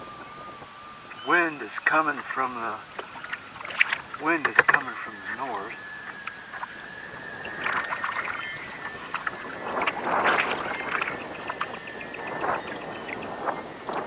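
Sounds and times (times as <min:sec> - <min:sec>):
water splashing against kayak: 0:01.3 - 0:14.0.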